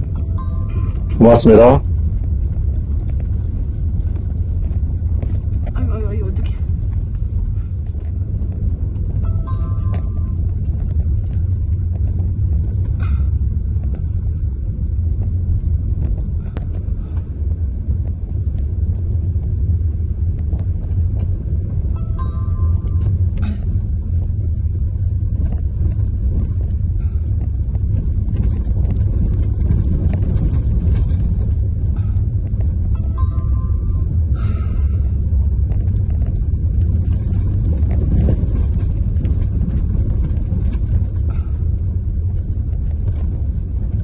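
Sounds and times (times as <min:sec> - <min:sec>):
car rumbling on dirt road: 0:00.0 - 0:44.0
knocks and ticks from rough road: 0:00.0 - 0:44.0.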